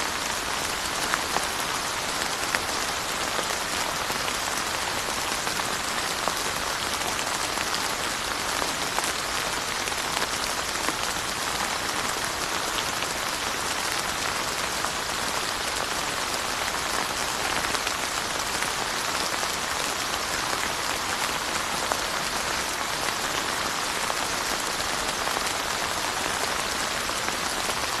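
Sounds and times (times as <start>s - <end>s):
rain pattering on surfaces: 0.0s - 28.0s.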